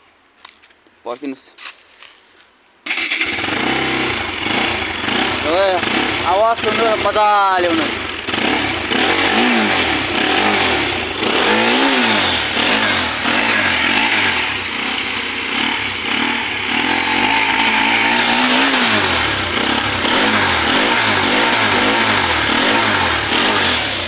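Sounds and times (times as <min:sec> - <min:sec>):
motorcycle engine revving: 0:02.8 - 0:24.0.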